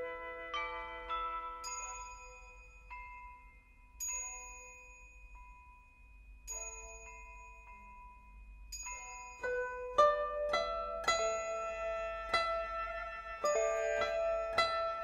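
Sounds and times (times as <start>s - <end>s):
slow bell-like struck notes: 0.0s - 15.0s.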